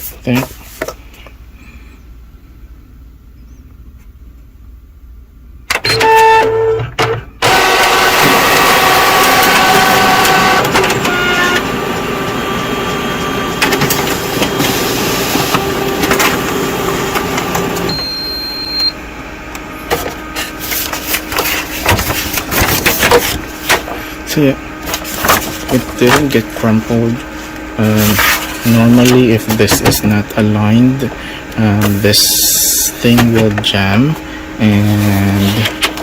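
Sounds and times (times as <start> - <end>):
document feeder motors and rollers: 5.7 - 36.0.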